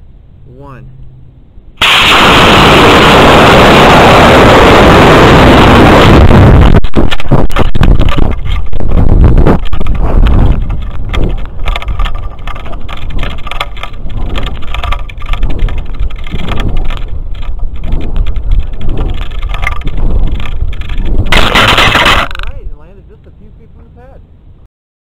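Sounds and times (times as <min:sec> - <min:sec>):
wind buffeting microphone: 0:01.8 - 0:23.3.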